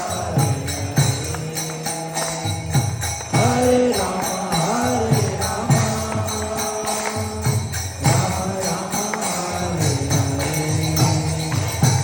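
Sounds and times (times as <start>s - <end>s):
devotional song melody: 0.0s - 12.0s
jingling bell-like percussion: 0.0s - 12.0s
sharp drum strikes: 0.0s - 12.0s.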